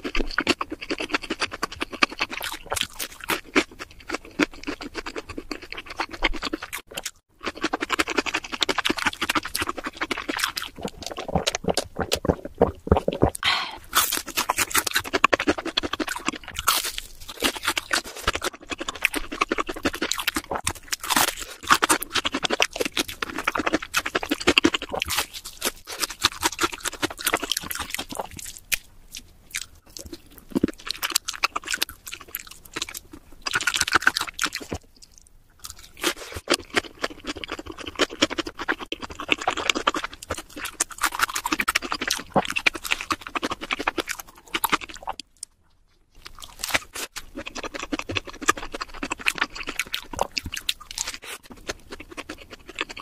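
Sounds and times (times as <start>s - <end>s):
crunchy chewing of fried chicken: 0.0s - 53.0s.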